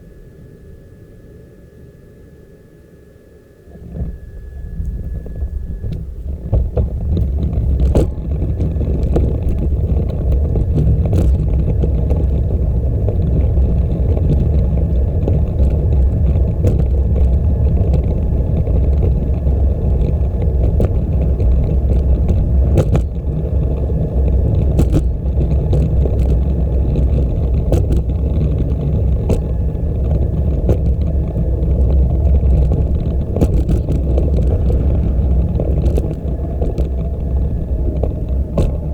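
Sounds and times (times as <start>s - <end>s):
bicycle tyres on trail: 3.7s - 38.9s
wind on microphone: 3.7s - 38.9s
bike clicks and rattles: 4.9s - 38.9s.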